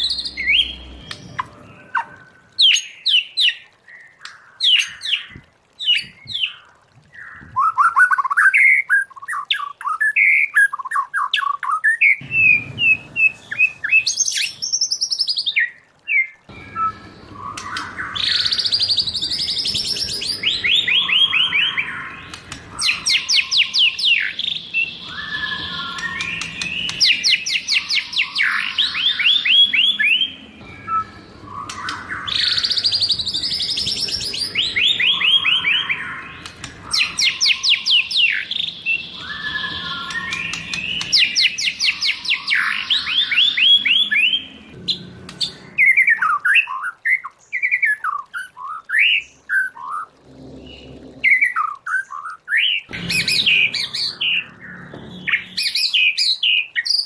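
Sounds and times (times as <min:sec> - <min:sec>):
bird singing trills and whistles: 0:00.0 - 0:50.1, 0:50.7 - 0:57.0.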